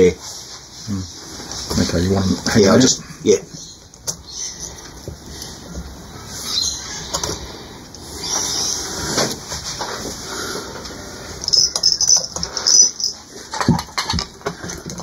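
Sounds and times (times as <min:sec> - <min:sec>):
rustling of wiring: 0:00.0 - 0:15.0.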